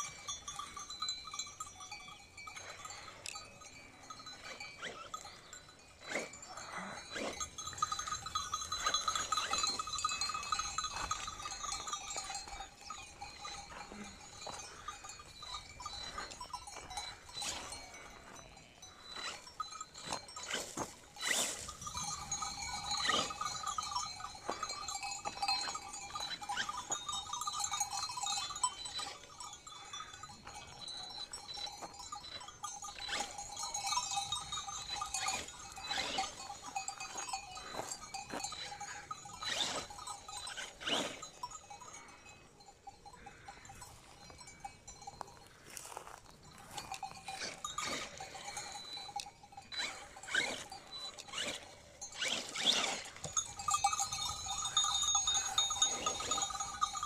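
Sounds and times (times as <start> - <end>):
sheep bells clanking: 0.0 - 57.0.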